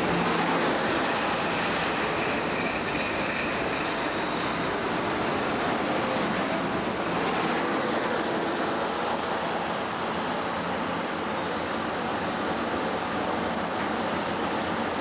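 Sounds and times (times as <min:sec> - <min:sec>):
diesel locomotive rumble and hiss: 0:00.0 - 0:15.0.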